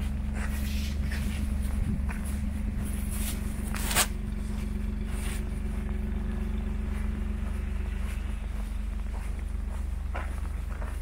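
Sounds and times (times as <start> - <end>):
footsteps crunching in snow: 0.0 - 11.0
steady low hum: 0.0 - 11.0.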